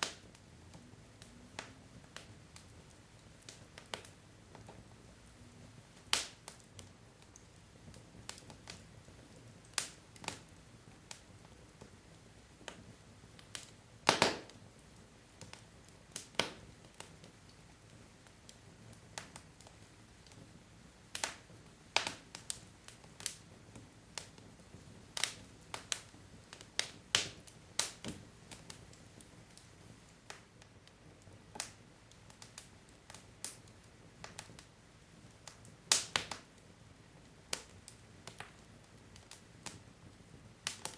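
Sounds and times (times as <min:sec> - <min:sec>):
logs crackling in fireplace: 0:00.0 - 0:40.9.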